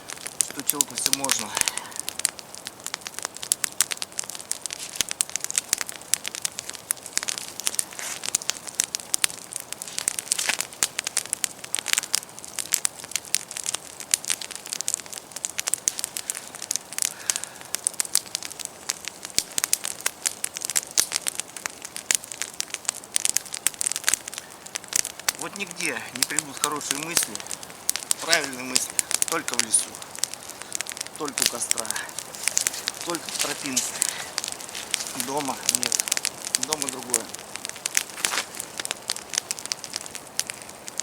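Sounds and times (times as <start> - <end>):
campfire crackling and snapping: 0.0 - 41.0.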